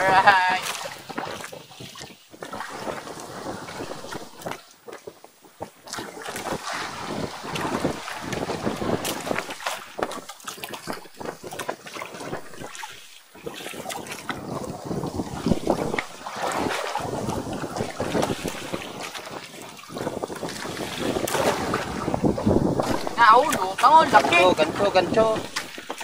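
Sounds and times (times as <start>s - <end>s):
water lapping against boat hull: 0.0s - 26.0s
wind buffeting microphone: 0.0s - 26.0s.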